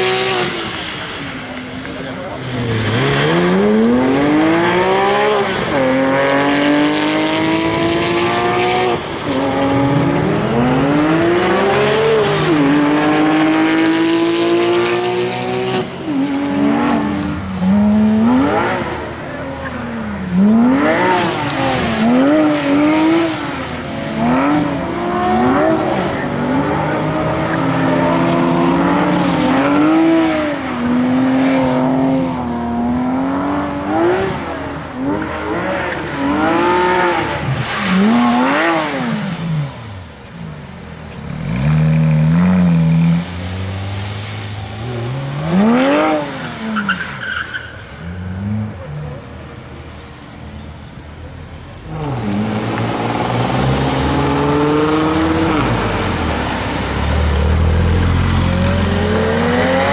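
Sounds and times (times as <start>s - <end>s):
car accelerating hard: 0.0s - 40.2s, 41.1s - 47.6s, 51.8s - 59.9s
car engine revving while drifting: 0.0s - 40.2s, 41.1s - 49.4s, 51.8s - 59.9s.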